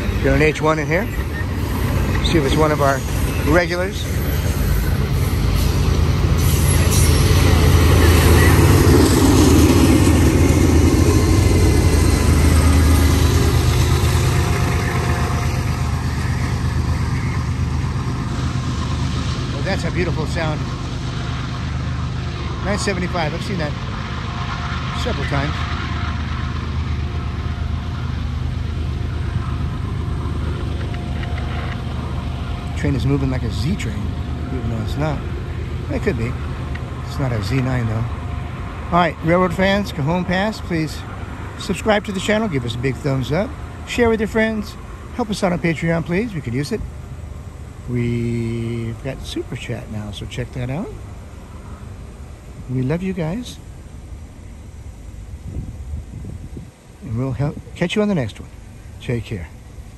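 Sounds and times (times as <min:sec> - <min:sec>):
freight train passing: 0:00.0 - 0:59.9
low engine drone: 0:00.0 - 0:59.9.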